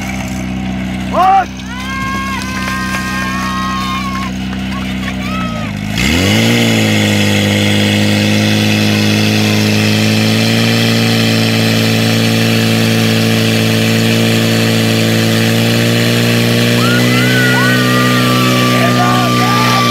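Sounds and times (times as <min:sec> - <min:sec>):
fire pump engine at high revs: 0:00.0 - 0:19.9.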